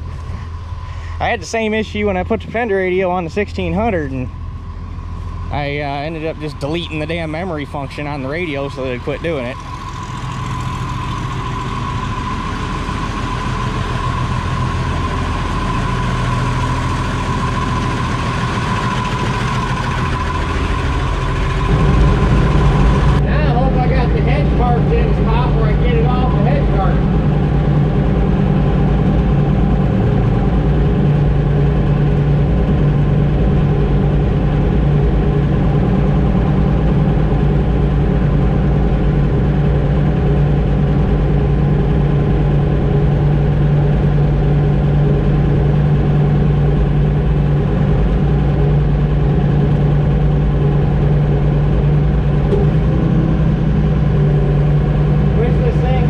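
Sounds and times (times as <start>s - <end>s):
heavy machine engine running: 0.0s - 56.0s.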